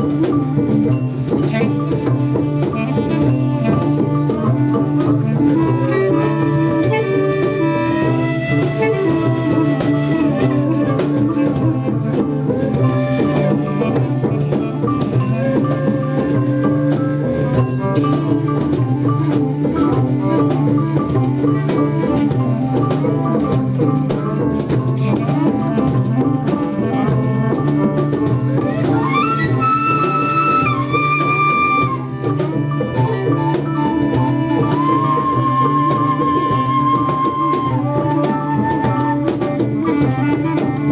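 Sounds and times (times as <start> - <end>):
drums and percussion: 0.0 - 40.9
vibraphone: 0.0 - 40.9
violin: 0.0 - 40.9.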